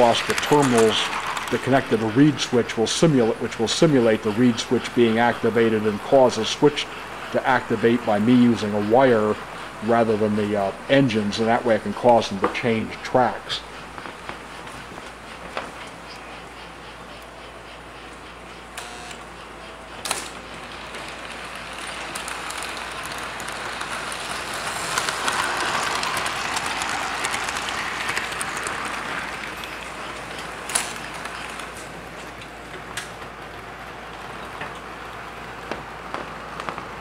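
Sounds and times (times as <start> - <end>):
model train rattling rumble: 0.0 - 37.0.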